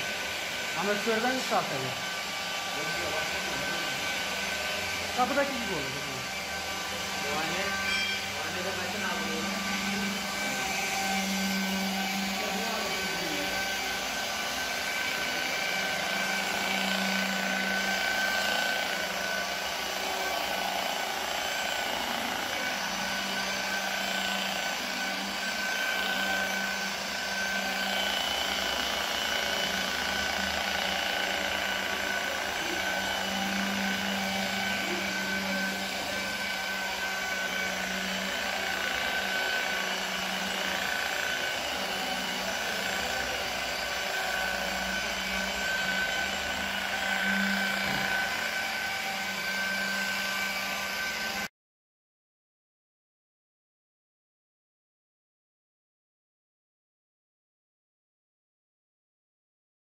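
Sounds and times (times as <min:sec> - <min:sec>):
electric polisher running: 0:00.0 - 0:51.5.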